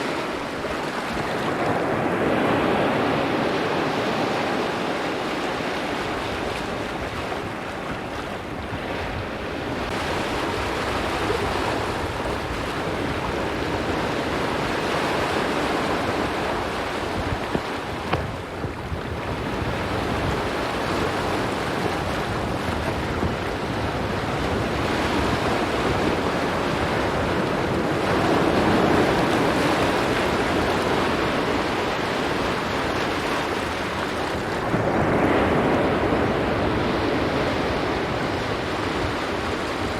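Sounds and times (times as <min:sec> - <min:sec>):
waves washing onto rocky shore: 0:00.0 - 0:39.9
wind buffeting microphone: 0:00.0 - 0:39.9.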